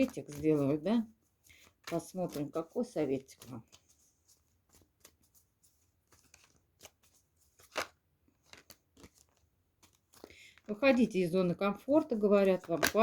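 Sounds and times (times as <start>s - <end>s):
cards rustling and clicking: 0.0s - 11.2s, 12.4s - 13.0s.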